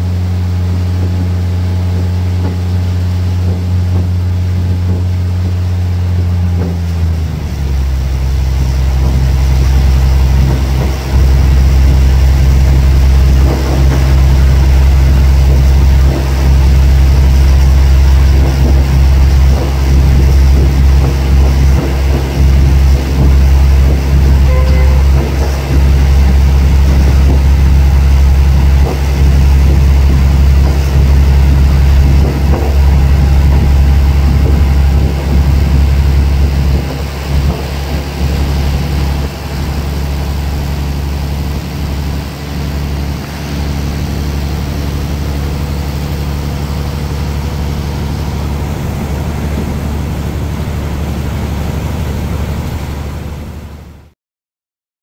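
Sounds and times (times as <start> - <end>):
train rumbling from on board: 0.0 - 54.1.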